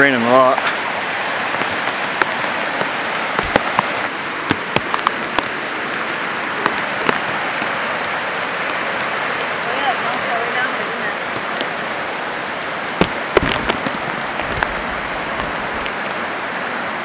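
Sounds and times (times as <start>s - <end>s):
heavy rain hissing: 0.0s - 17.0s
raindrops tapping near microphone: 0.0s - 17.0s.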